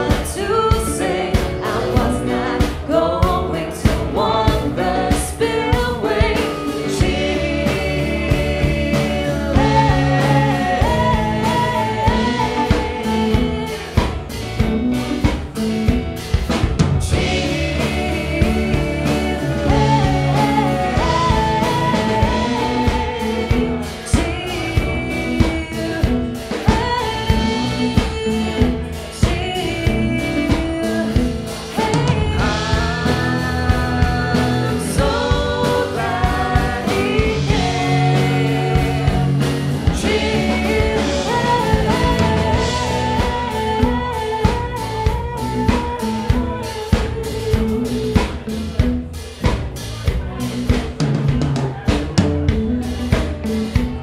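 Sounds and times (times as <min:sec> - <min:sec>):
person singing: 0:00.0 - 0:15.4, 0:17.0 - 0:54.0
acoustic guitar: 0:00.0 - 0:54.0
drum kit beat: 0:00.0 - 0:54.0
electric guitar lead line: 0:00.0 - 0:54.0
keyboard: 0:00.0 - 0:54.0.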